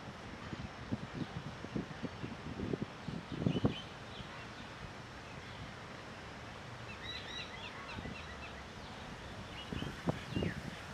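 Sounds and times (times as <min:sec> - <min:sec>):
outdoor background hiss: 0:00.0 - 0:10.9.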